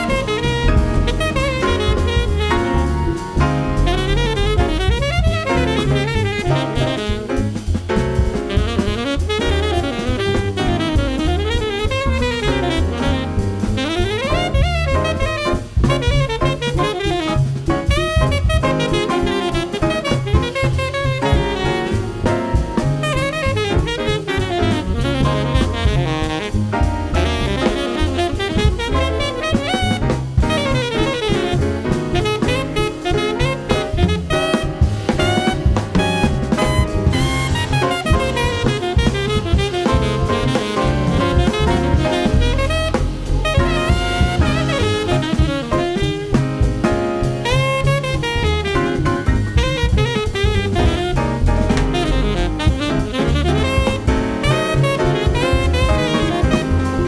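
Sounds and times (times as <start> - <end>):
bass: 0.0 - 57.0
drum kit: 0.0 - 57.0
jazz saxophone solo: 0.0 - 57.0
piano: 0.0 - 57.0.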